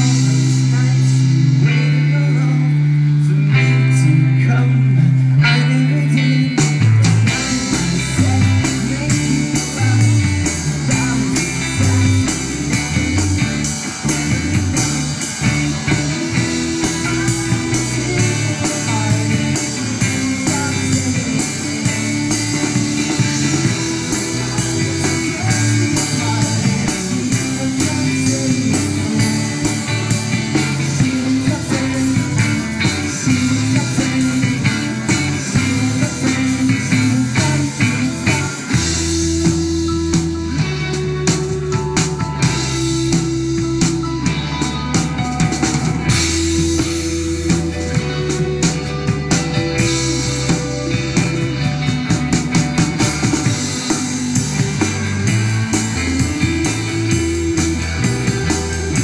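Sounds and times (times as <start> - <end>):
bass line: 0.0 - 59.0
electric guitar: 0.0 - 59.0
rock band playing live: 0.0 - 59.0.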